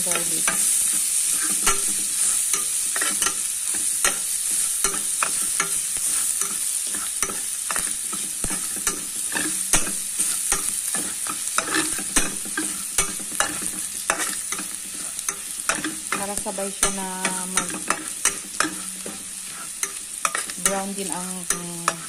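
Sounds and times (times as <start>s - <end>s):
bacon and garlic sizzling in oil: 0.0s - 22.0s
metal spatula scraping a pan: 0.0s - 22.0s.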